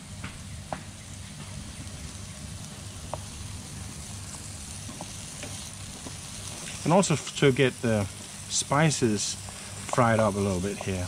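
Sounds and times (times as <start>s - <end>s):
chicken sizzling in a pan: 0.4s - 11.0s.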